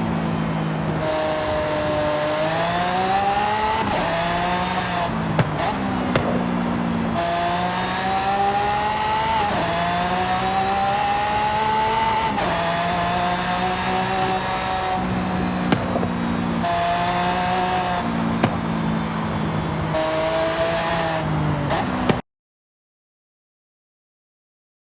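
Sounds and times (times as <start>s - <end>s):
car engine accelerating: 0.0s - 22.2s.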